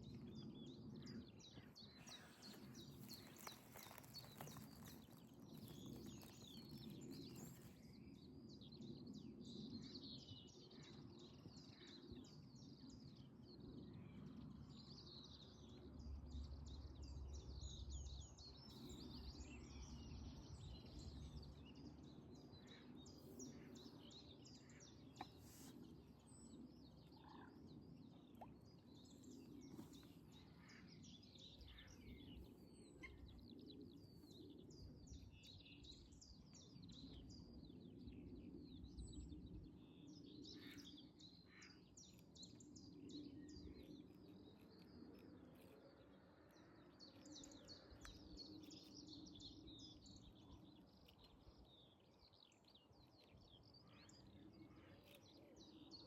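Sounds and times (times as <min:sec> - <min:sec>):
low steady background rumble: 0:00.0 - 0:56.0
small birds chirping and trilling: 0:00.0 - 0:56.0.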